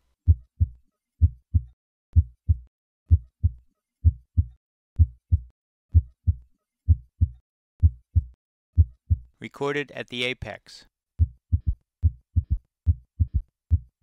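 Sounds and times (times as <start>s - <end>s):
heartbeat lub-dub: 0.2s - 9.3s, 11.2s - 14.0s.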